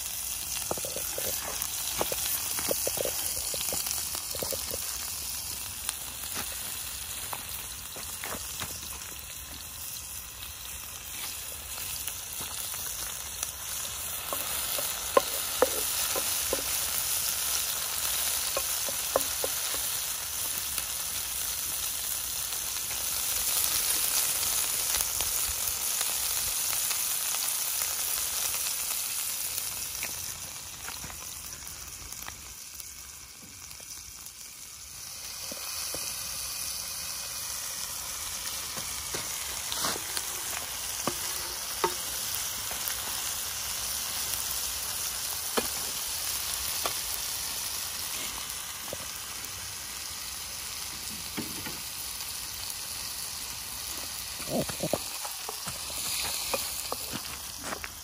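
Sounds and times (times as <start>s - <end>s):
peppers sizzling in oil: 0.0s - 58.0s.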